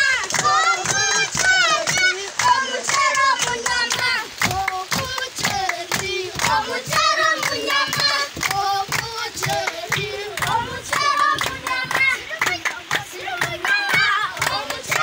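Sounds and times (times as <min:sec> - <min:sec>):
children singing a chant: 0:00.0 - 0:15.0
hand claps: 0:00.0 - 0:15.0.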